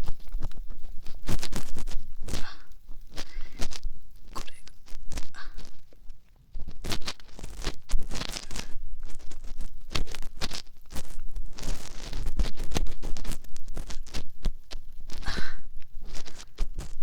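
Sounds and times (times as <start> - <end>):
ear pick scratching in microphone: 0.0 - 17.0.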